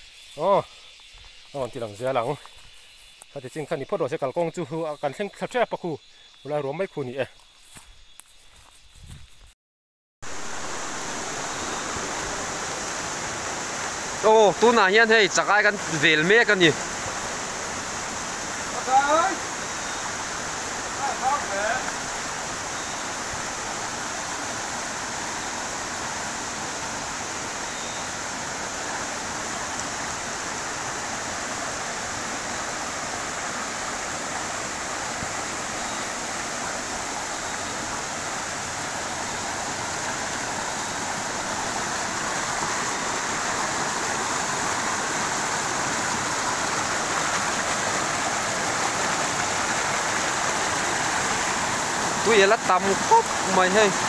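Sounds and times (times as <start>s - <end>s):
stream rushing over stones: 10.2s - 54.0s.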